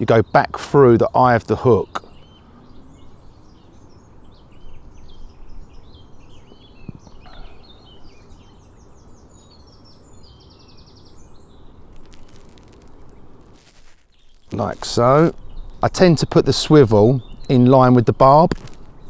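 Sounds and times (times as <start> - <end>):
small birds chirping and singing: 0.0 - 19.0
bird trill: 1.8 - 13.4, 14.1 - 18.0.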